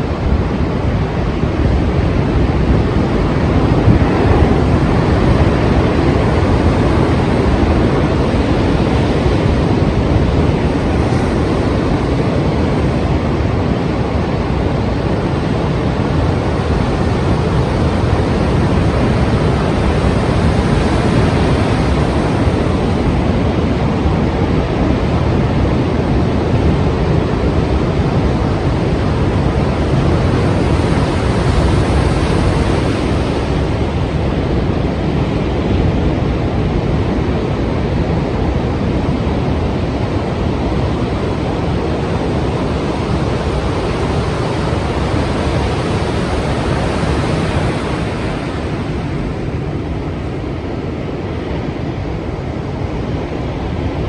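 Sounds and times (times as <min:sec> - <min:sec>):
wind buffeting microphone: 0:00.0 - 0:54.0
sea waves breaking: 0:00.1 - 0:54.0.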